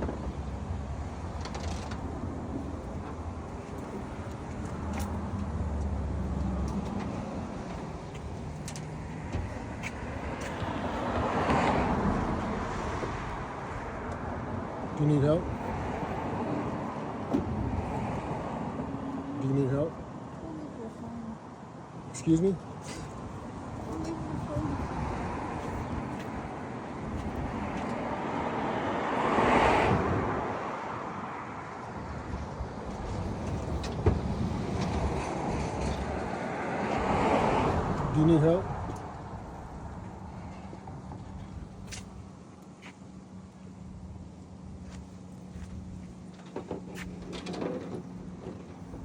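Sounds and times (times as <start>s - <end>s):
outdoor background noise: 0.0s - 49.0s
road vehicle passing: 0.0s - 49.0s.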